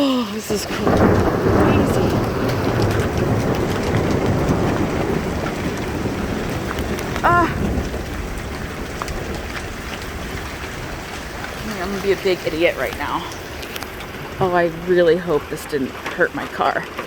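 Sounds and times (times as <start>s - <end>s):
heavy rain and hail pelting: 0.0s - 17.0s.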